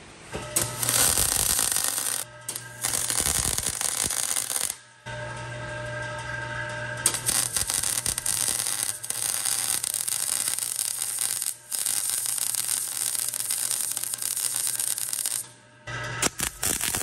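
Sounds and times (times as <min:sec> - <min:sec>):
welding arc crackling: 0:00.6 - 0:04.9, 0:07.0 - 0:15.6, 0:16.2 - 0:17.0.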